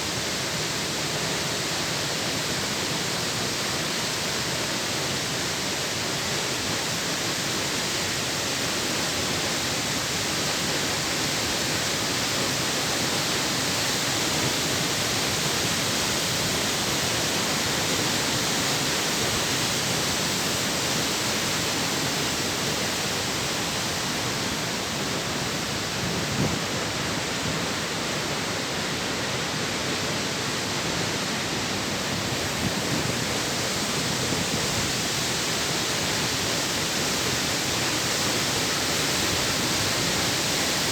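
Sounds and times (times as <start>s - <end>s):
water rushing down spillway: 0.0s - 40.9s.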